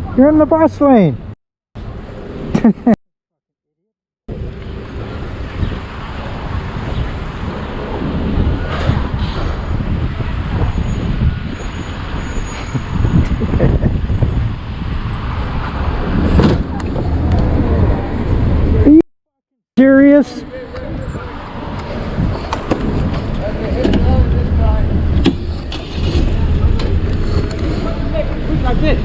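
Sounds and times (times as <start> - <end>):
road and traffic noise: 0.0 - 3.0, 4.3 - 19.0, 19.8 - 29.0.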